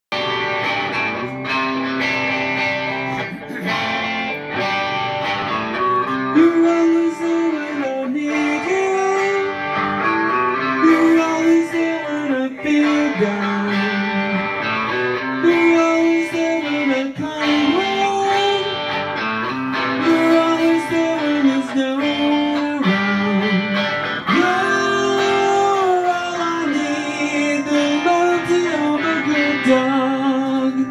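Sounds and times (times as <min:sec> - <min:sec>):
strummed electric guitars: 0:00.1 - 0:30.9
person singing: 0:02.7 - 0:04.6, 0:05.5 - 0:19.1, 0:19.8 - 0:30.9.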